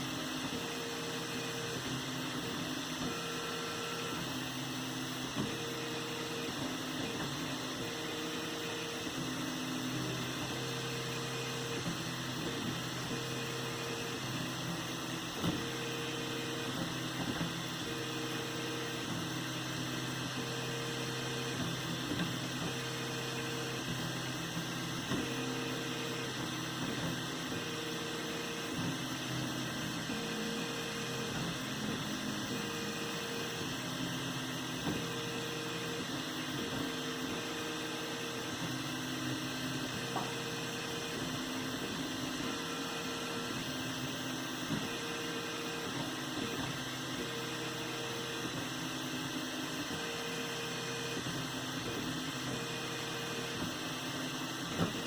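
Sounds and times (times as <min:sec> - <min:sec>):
printer hum: 0:00.0 - 0:55.0
printer motor whines: 0:00.0 - 0:55.0.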